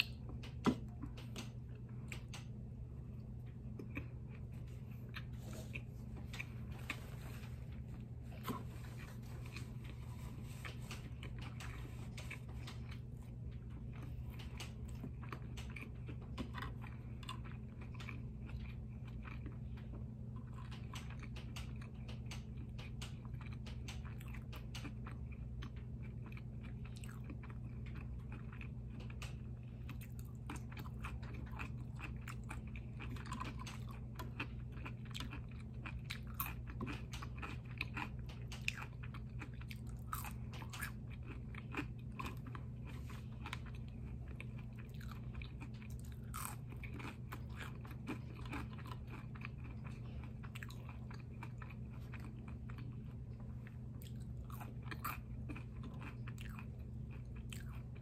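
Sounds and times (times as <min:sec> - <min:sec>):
biting and chewing: 0:00.0 - 0:58.0
steady low hum: 0:00.0 - 0:58.0
wet clicks and crunches: 0:10.6 - 0:57.9.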